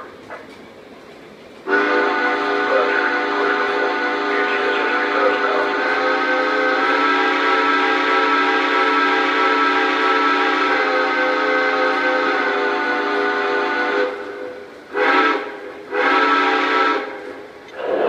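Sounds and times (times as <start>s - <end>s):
steam whistle blast: 1.7s - 17.1s.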